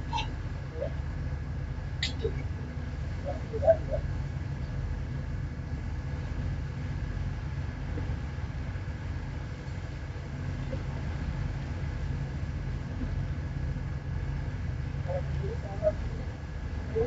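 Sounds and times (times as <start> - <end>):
ship engine droning: 0.0 - 17.0.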